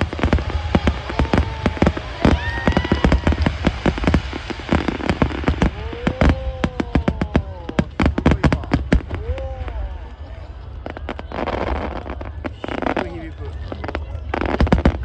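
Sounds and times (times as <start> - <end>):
crowd chattering: 0.0 - 15.0.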